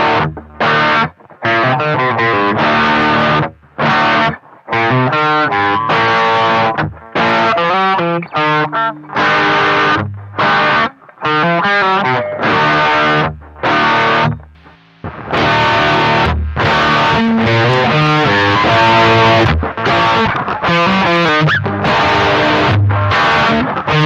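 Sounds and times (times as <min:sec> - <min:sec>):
distorted electric guitar riff: 0:00.0 - 0:24.0.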